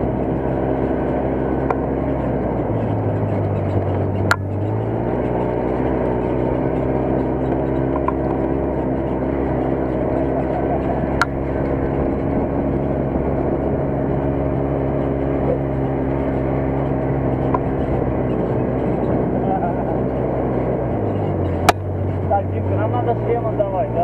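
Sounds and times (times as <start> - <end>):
buggy engine running: 0.0 - 24.0.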